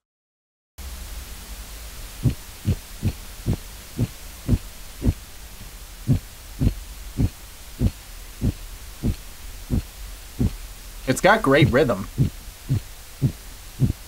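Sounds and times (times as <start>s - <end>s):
steady low hum: 0.8s - 14.0s.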